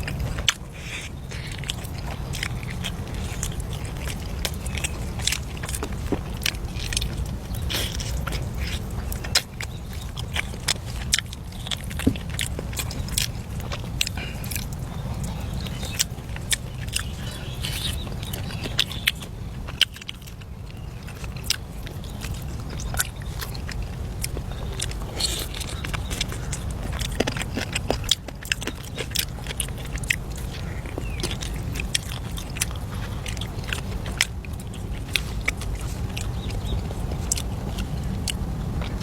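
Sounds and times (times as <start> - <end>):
chewing and crunching: 0.0 - 39.0.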